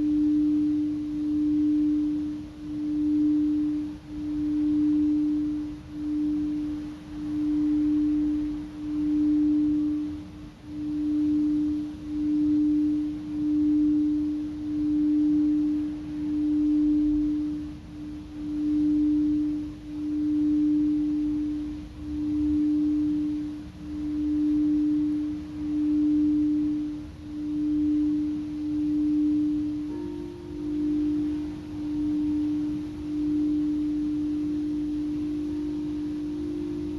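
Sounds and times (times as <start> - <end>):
singing bowl sustained low tone: 0.0 - 36.9.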